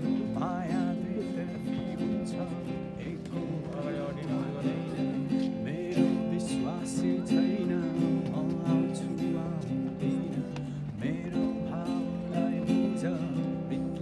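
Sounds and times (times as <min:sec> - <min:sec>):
acoustic guitar strumming chords: 0:00.0 - 0:14.0
man singing: 0:00.0 - 0:14.0.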